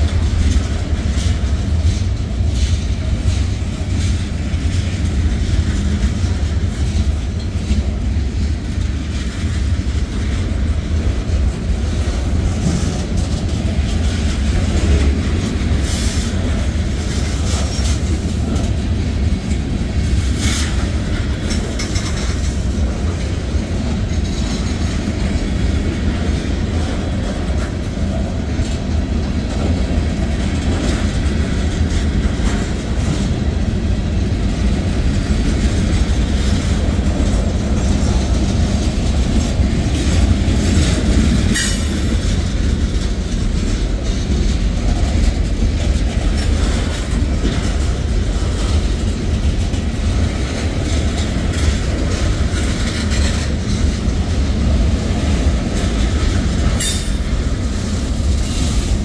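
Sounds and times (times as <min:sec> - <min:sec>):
clickety-clack over rail joints: 0:00.0 - 0:59.0
freight cars rumbling on rails: 0:00.0 - 0:59.0.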